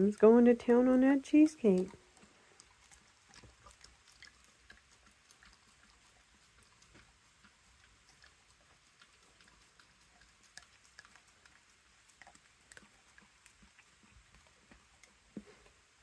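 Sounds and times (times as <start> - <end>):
dog licking and chewing: 0.0 - 16.0.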